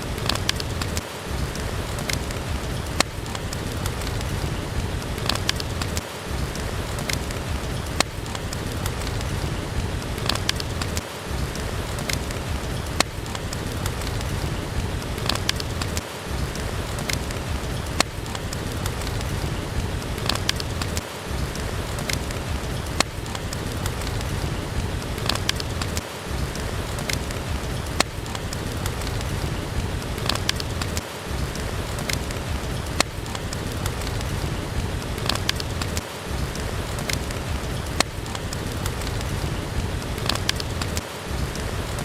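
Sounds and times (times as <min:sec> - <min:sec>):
steady rain: 0:00.0 - 0:42.0
wood fire crackling: 0:00.0 - 0:42.0.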